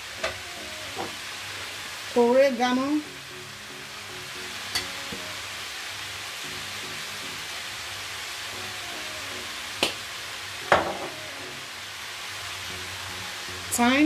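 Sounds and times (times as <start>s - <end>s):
vegetables sizzling in frying pan: 0.0s - 14.0s.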